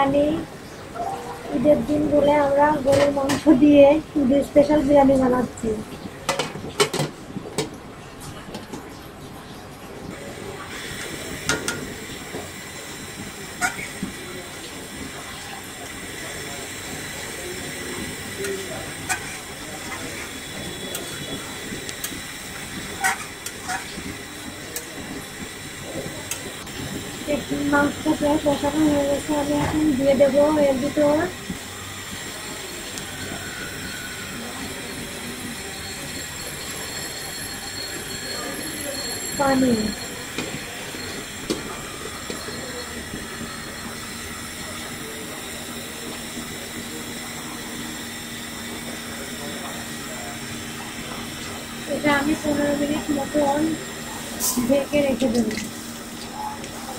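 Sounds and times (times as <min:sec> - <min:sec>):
mechanical hum with hiss: 0:00.0 - 0:56.9.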